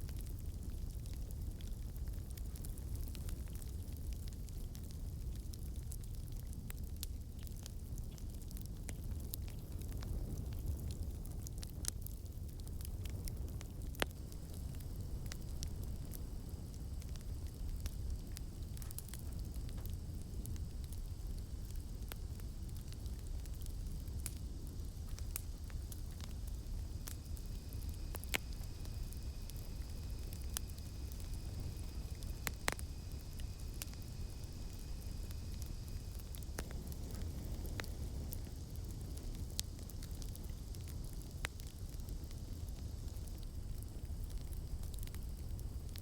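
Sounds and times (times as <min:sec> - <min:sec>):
burning wood crackling and popping: 0:00.0 - 0:46.0
campfire flame rumble: 0:00.0 - 0:46.0
night insects droning: 0:07.2 - 0:46.0.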